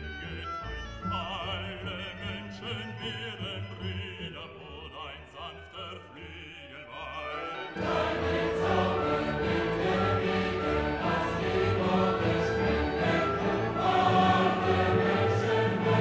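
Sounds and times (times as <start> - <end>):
classical music with operatic voice: 0.0 - 16.0.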